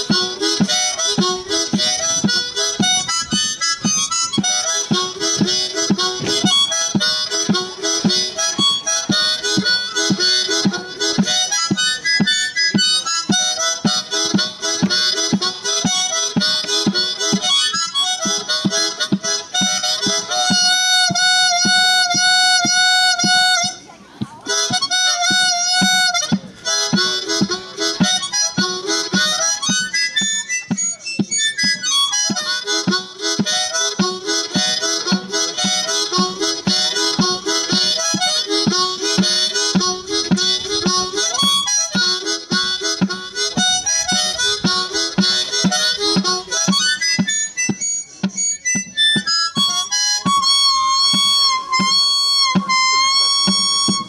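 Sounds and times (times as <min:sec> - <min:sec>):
harmonica playing: 0:00.0 - 0:54.0.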